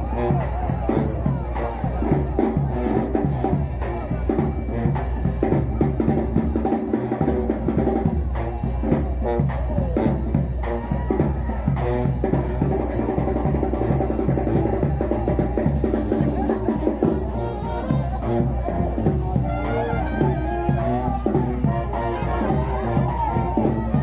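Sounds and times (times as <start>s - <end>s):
bass drum and snare beat: 0.0s - 24.0s
brass band playing: 0.0s - 24.0s.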